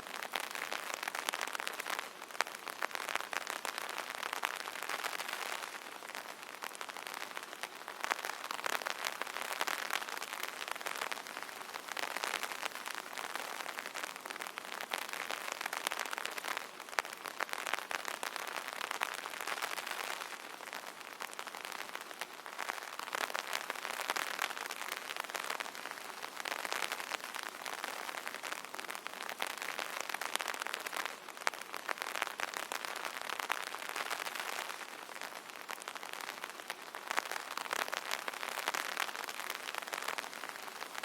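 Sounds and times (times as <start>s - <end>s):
rain pattering on an umbrella: 0.0s - 41.0s.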